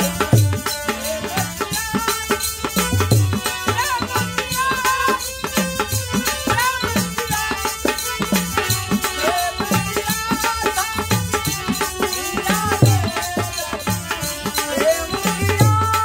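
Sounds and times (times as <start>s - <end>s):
harmonium melody: 0.0s - 16.0s
man singing: 0.0s - 16.0s.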